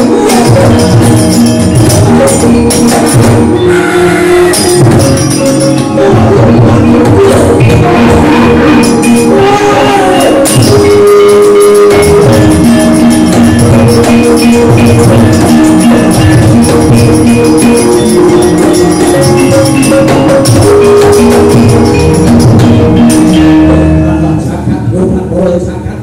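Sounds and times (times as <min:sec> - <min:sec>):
busy drum beat: 0:00.0 - 0:03.6, 0:04.4 - 0:23.9
ringing metallophone notes: 0:00.0 - 0:24.6.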